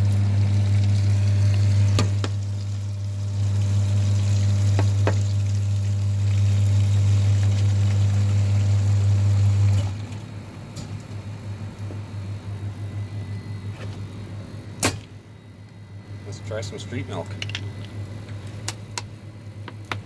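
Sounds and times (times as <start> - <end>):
pump humming: 0.0 - 19.7.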